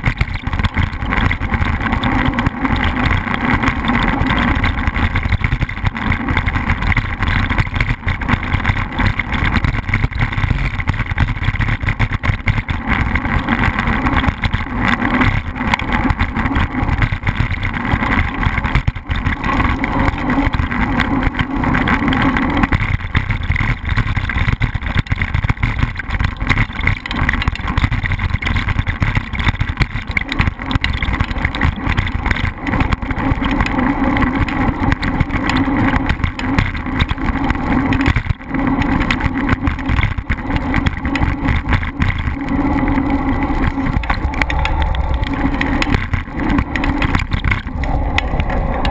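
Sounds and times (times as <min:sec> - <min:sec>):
engine running loudly: 0:00.0 - 0:48.9.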